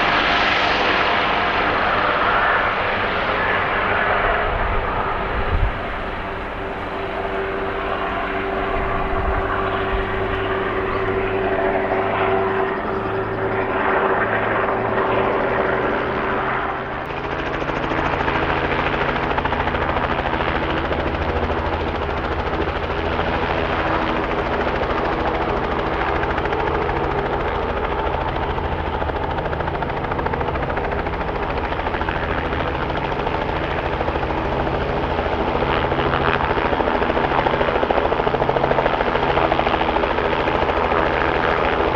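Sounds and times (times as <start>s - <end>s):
helicopter turbine and rotors: 0.0s - 41.9s.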